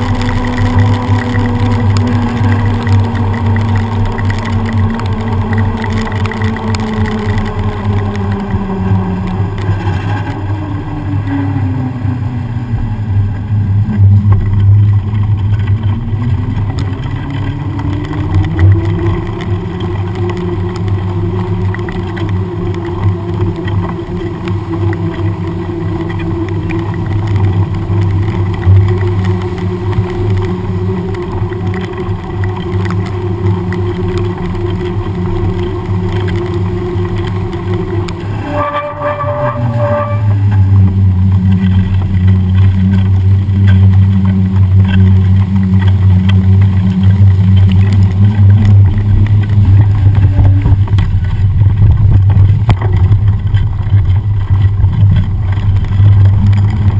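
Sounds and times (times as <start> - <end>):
bike riding on wet road: 0.0 - 56.9
humming tone: 0.0 - 56.9
wind rumble on microphone: 0.0 - 56.9.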